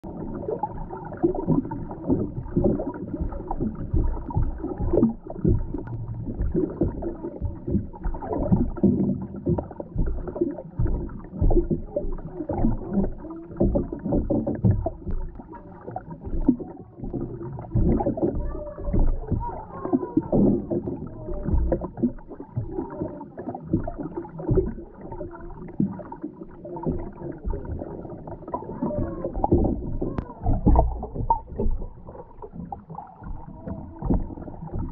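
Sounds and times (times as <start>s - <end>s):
low rumble of moving water: 0.0s - 34.9s
underwater knocks and thumps: 0.0s - 34.9s.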